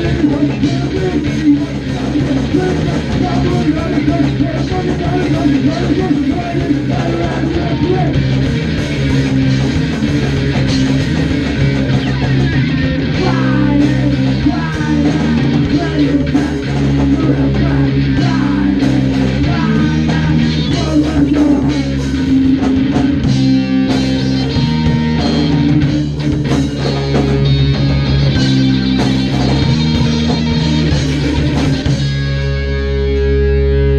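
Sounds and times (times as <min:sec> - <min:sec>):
band playing live: 0:00.0 - 0:33.9.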